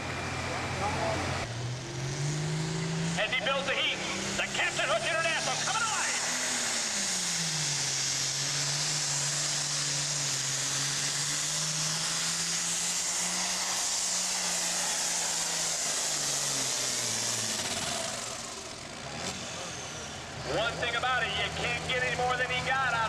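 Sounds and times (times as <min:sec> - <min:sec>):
tractor engine at full power: 0:00.0 - 0:23.0.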